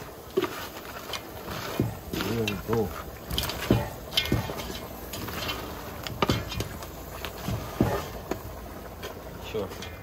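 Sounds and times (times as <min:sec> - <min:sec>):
crab shells clattering in pot: 0:00.0 - 0:10.0.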